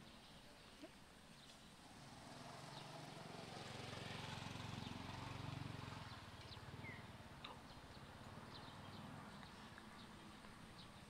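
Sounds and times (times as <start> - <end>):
faint engine hum: 1.4 - 11.0.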